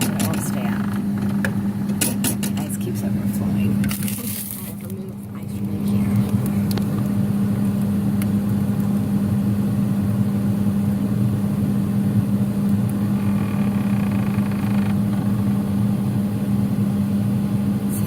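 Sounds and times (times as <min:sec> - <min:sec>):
freezer droning hum: 0:00.0 - 0:18.0.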